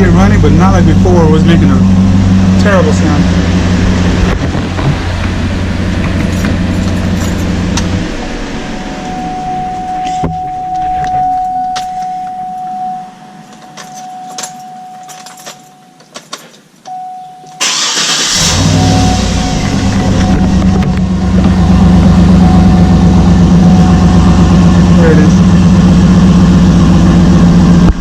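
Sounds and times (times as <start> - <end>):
steady tone: 0.0 - 15.9, 18.4 - 27.9
vehicle engine humming: 0.0 - 28.0.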